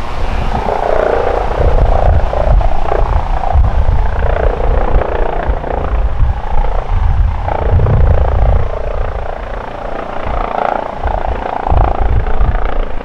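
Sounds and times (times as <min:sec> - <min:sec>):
helicopter rotor beat: 0:00.0 - 0:13.0
helicopter whine: 0:00.0 - 0:13.0.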